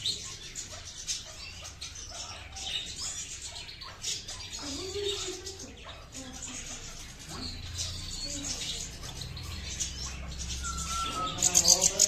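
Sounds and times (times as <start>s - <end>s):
finch chirping: 0.0s - 12.0s.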